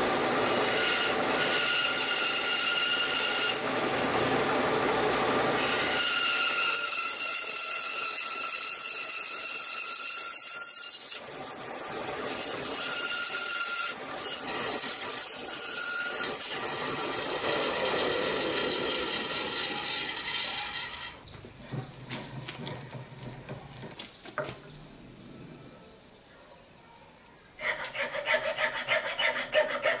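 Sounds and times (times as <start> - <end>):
power saw cutting wood: 0.0 - 21.9, 27.6 - 30.0.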